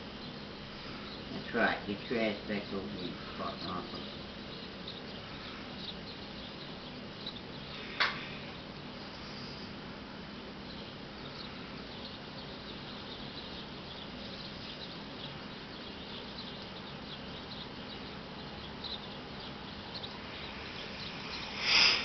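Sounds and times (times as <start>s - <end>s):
birds chirping: 0.0s - 22.0s
steady background hiss: 0.0s - 22.0s.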